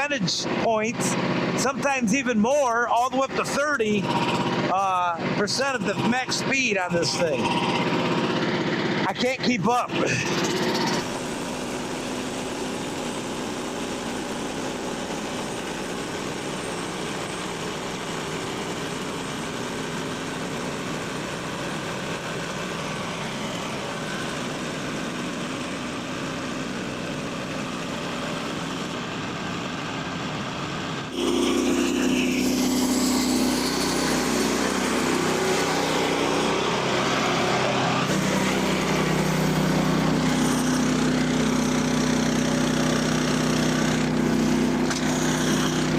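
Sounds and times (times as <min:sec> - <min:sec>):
small gasoline engine running: 0:00.0 - 0:45.9.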